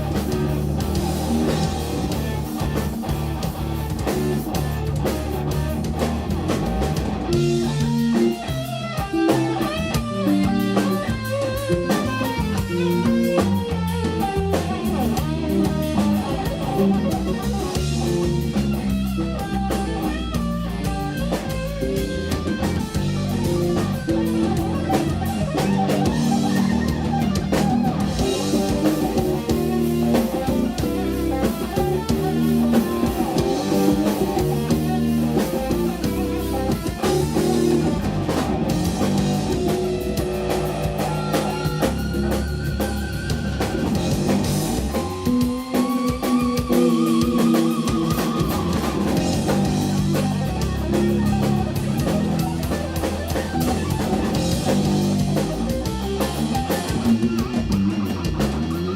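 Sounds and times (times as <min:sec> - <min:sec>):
bass guitar: 0:00.0 - 0:58.9
drum kit: 0:00.0 - 0:58.9
electric guitar lines: 0:00.0 - 0:58.9.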